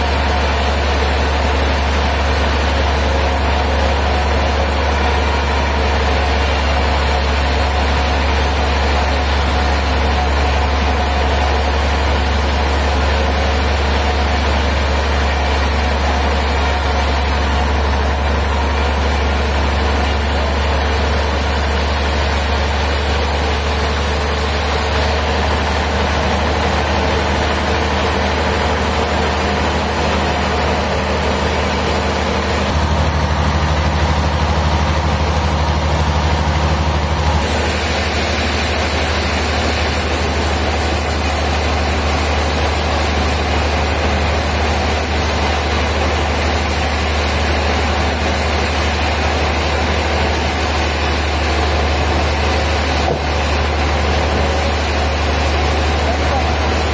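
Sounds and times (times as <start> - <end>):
heavy engine running: 0.0 - 56.9.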